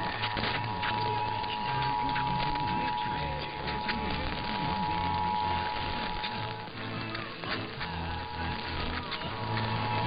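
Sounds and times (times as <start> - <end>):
music underneath: 0.0 - 10.0
two-tone alarm signal: 0.0 - 10.0.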